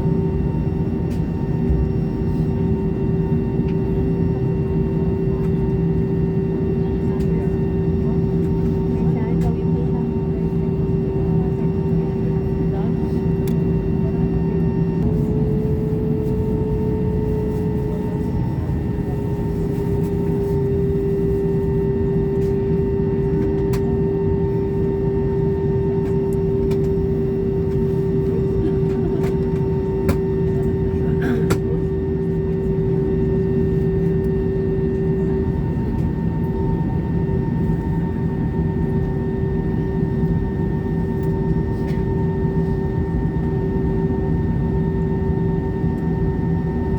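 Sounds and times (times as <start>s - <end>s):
jet engines rumbling in cabin: 0.0s - 46.9s.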